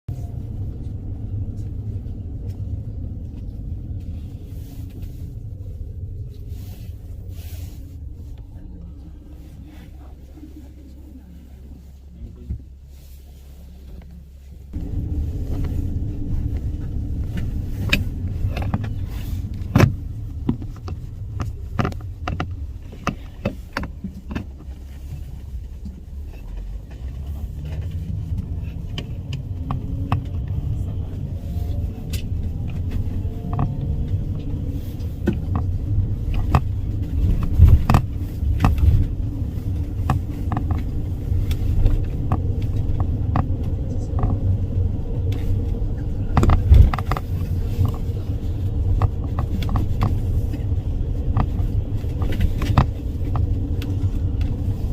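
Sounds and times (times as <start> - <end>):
engine and road rumble: 0.0 - 54.9.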